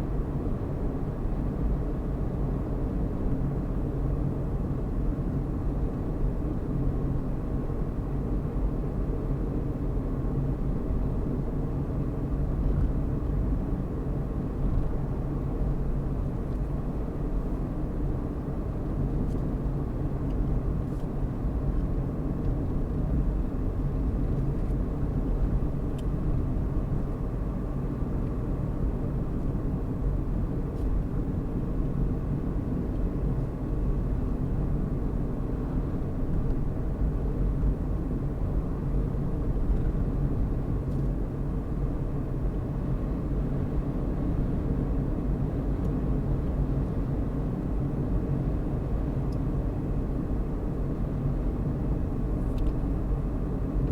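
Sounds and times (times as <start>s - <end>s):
car engine rumble: 0.0s - 53.9s.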